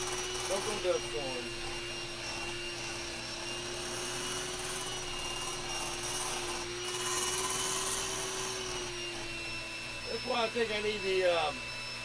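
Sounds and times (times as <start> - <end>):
electric hand mixer running: 0.0 - 12.0.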